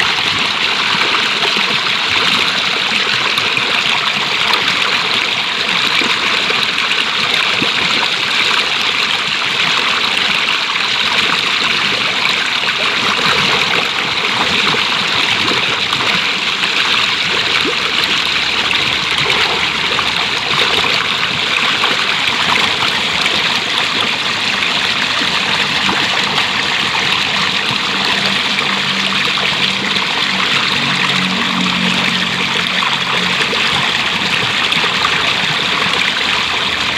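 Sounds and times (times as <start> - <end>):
stream water flowing: 0.0 - 36.9.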